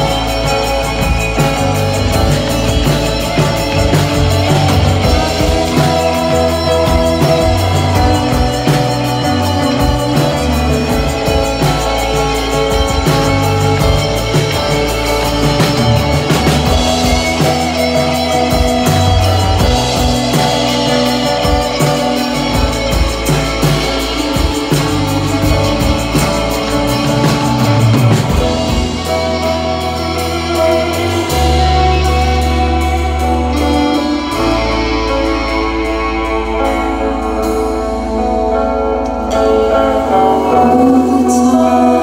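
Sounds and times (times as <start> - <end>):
tambourine: 0.0 - 38.5
bass guitar: 0.0 - 42.0
drum kit: 0.0 - 42.0
electric guitars: 0.0 - 42.0.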